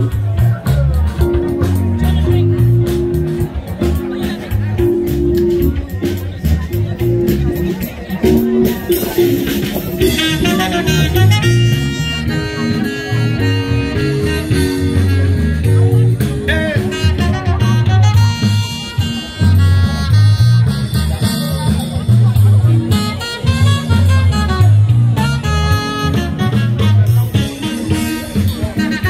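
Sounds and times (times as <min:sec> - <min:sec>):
music with repeating bass beat: 0:00.0 - 0:29.0.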